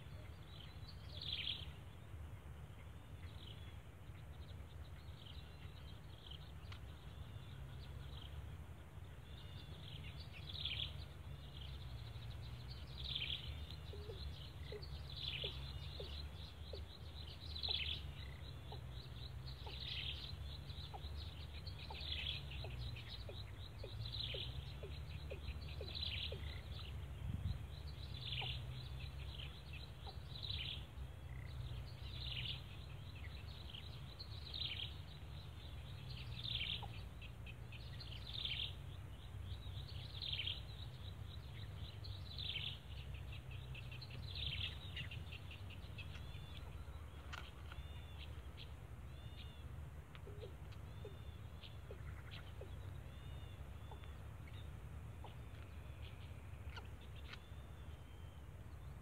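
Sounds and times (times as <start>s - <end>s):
bird chirping: 0.0s - 59.0s
low background rumble: 0.0s - 59.0s.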